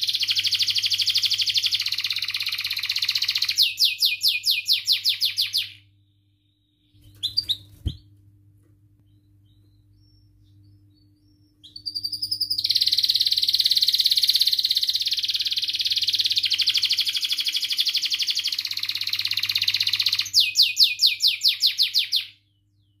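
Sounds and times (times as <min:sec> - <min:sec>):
canary singing: 0:00.0 - 0:06.0, 0:06.9 - 0:08.2, 0:09.0 - 0:23.0
faint steady hum: 0:00.0 - 0:20.4.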